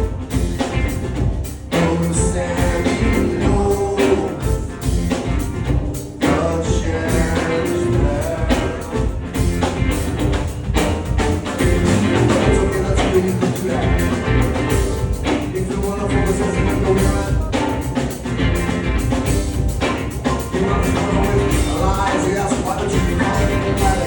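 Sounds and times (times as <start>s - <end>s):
drum kit beat: 0.0s - 24.0s
rock band playing live: 0.0s - 24.0s.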